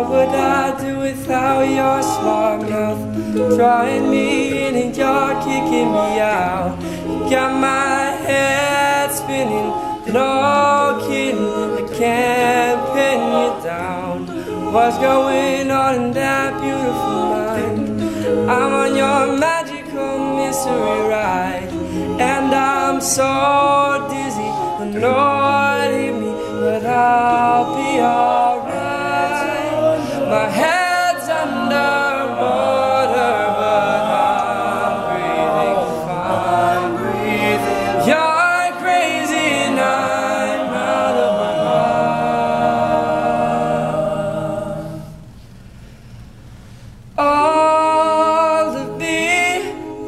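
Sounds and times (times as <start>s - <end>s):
male a cappella group singing: 0.0s - 45.4s, 47.2s - 50.0s.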